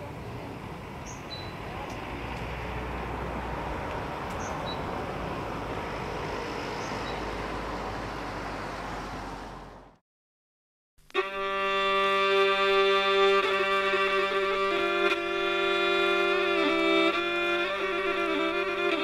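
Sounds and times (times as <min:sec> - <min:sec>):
street ambience hum and hiss: 0:00.0 - 0:10.0, 0:11.1 - 0:19.0.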